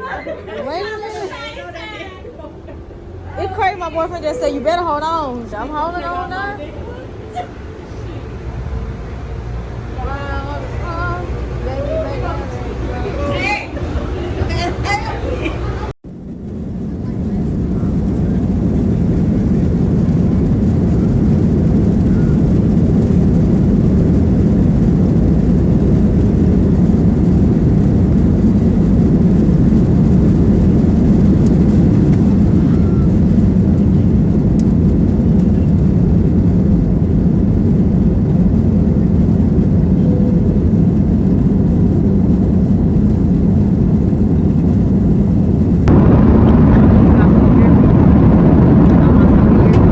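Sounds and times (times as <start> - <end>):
airliner cabin engine rumble: 2.9 - 49.9.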